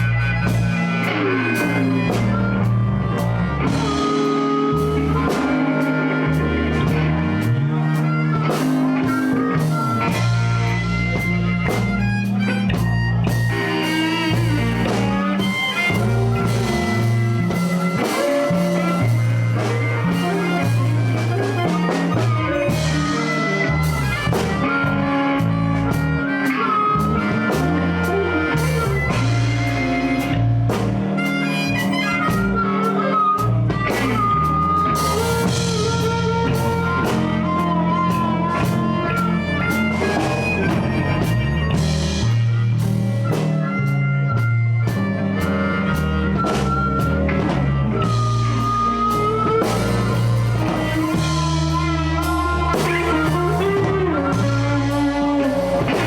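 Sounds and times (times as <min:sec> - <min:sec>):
bass guitar: 0:00.0 - 0:56.0
blues harmonica: 0:00.0 - 0:56.0
drum kit: 0:00.0 - 0:56.0
electric guitar: 0:00.0 - 0:56.0.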